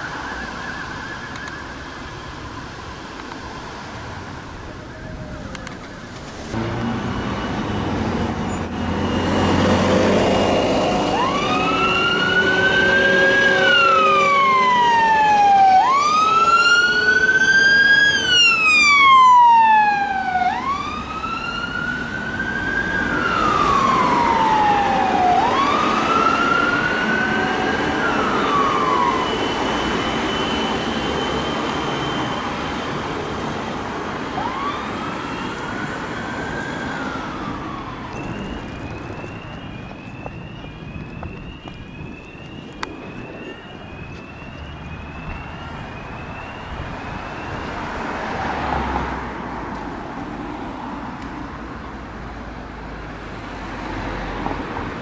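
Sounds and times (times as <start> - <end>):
emergency siren wailing: 0.0 - 51.6
vehicle engine and road noise: 0.0 - 55.0.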